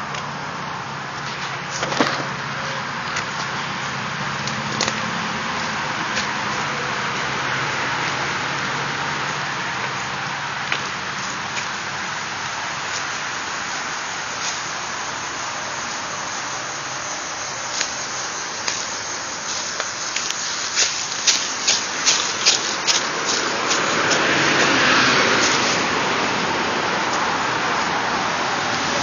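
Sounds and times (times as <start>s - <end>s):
freeway traffic: 0.0s - 29.0s
footsteps on dry leaves: 2.6s - 29.0s.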